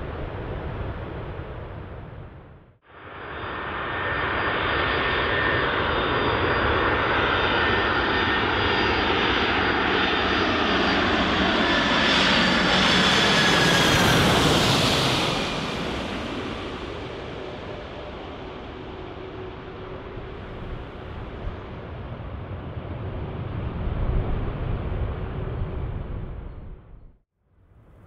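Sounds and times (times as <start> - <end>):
jet engines rushing and whining: 0.0 - 27.0.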